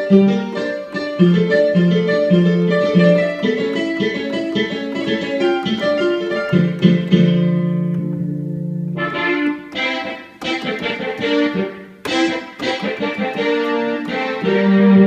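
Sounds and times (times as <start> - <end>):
electronic piano melody: 0.0 - 15.0.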